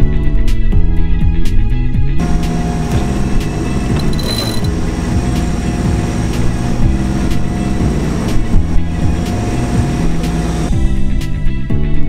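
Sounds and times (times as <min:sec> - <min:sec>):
background music with slow beat: 0:00.0 - 0:12.0.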